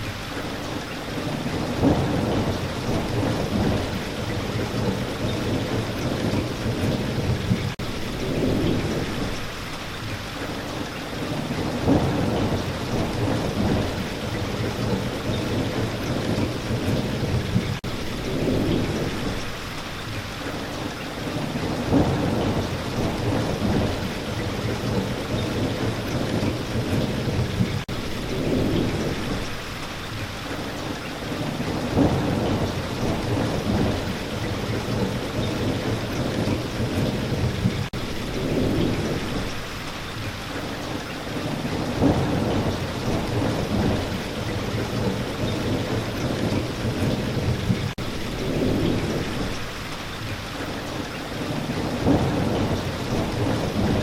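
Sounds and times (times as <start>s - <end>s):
steady rain falling: 0.0s - 54.0s
low thunder rumbles: 1.2s - 9.6s, 10.8s - 19.6s, 21.2s - 29.7s, 31.2s - 54.0s.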